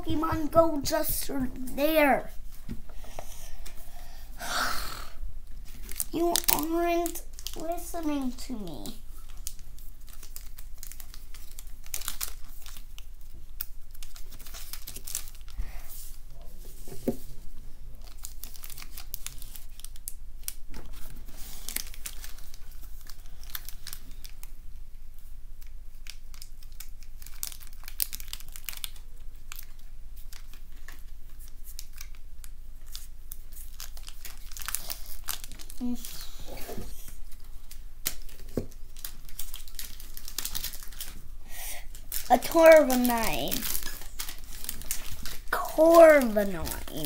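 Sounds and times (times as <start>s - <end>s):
foil wrapper crinkling and tearing: 5.6s - 16.2s, 18.0s - 24.5s, 25.6s - 47.0s.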